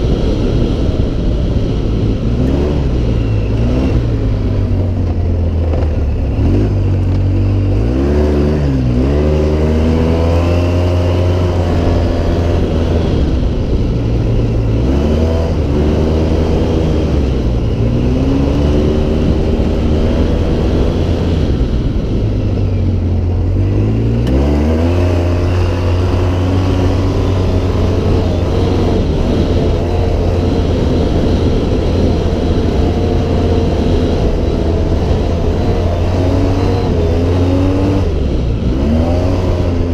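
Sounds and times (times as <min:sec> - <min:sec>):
off-road vehicle engine revving: 0:00.0 - 0:39.9
steady rush of noise: 0:00.0 - 0:39.9.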